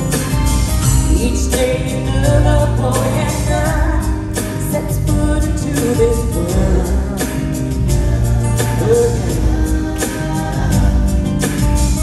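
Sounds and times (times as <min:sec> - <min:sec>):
live pop band music: 0:00.0 - 0:12.0
person singing: 0:00.1 - 0:12.0.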